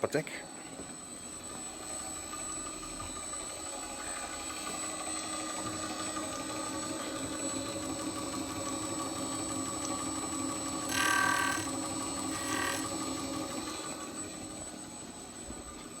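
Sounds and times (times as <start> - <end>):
milling machine running: 1.2 - 16.0.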